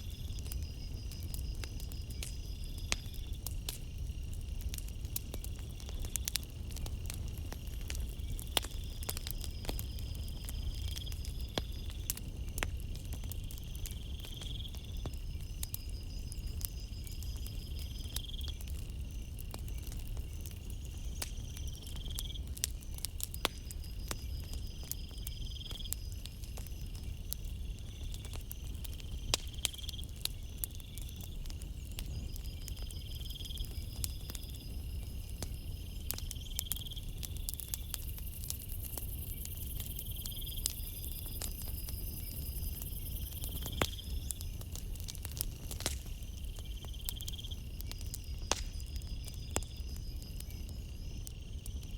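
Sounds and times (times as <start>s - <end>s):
campfire crackling: 0.0s - 51.9s
crickets trilling: 0.0s - 51.9s.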